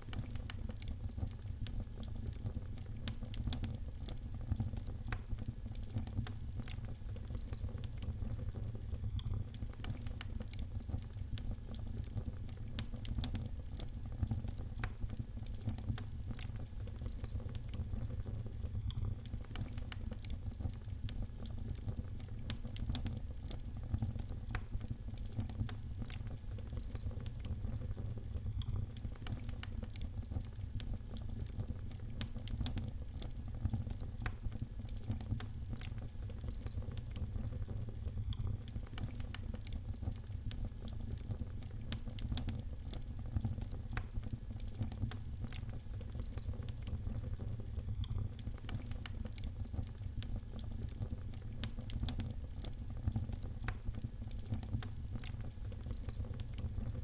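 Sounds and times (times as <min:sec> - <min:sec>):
low rumble of burning: 0:00.0 - 0:57.0
wood fire crackling: 0:00.0 - 0:57.0.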